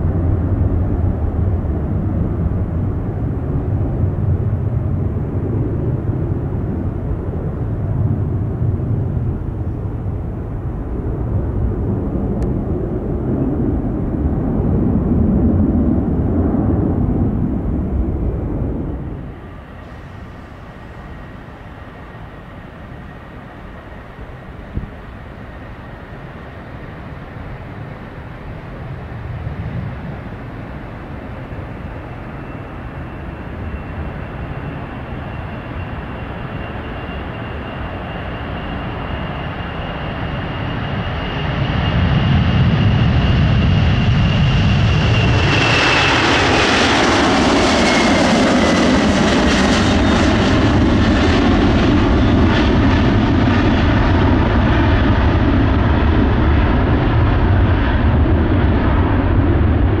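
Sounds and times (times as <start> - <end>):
crackling jet roar: 0.0 - 60.0
jet engines whine and rumble: 0.0 - 60.0.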